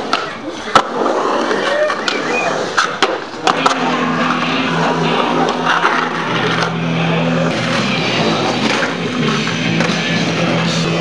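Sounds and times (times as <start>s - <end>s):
skateboard clacks: 0.0s - 6.8s, 7.5s - 11.0s
skateboard wheels grinding on concrete: 0.0s - 11.0s.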